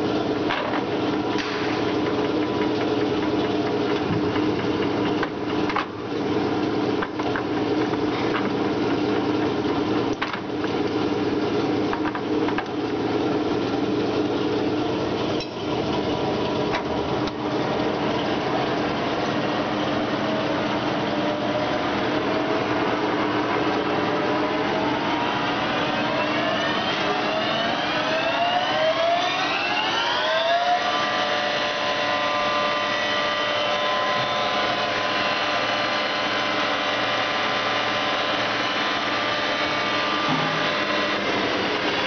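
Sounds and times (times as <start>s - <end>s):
lathe running: 0.0s - 42.0s.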